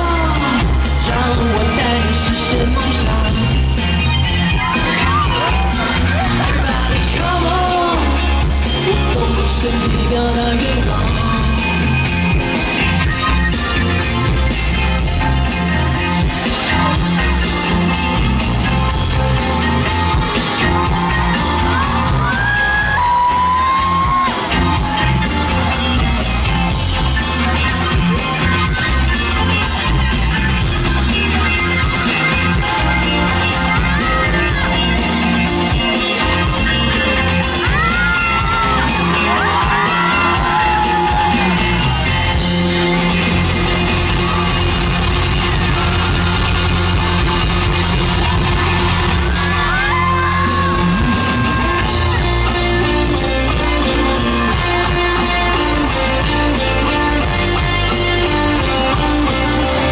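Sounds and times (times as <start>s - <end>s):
heavy bass beat: 0.0s - 59.9s
high voices yelling and whooping: 0.0s - 59.9s
live pop band music: 0.0s - 59.9s.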